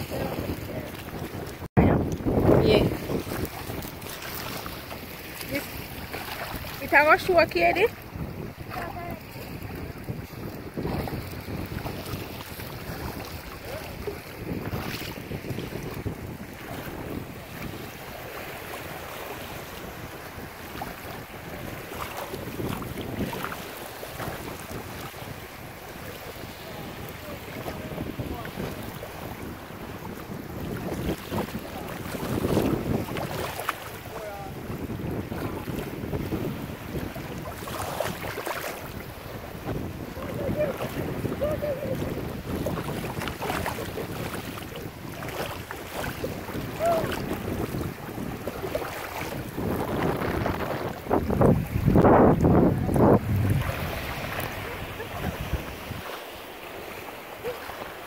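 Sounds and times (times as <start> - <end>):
water sloshing from wading: 0.0 - 58.0
water splashes: 0.0 - 58.0
wind buffeting microphone: 0.0 - 58.0.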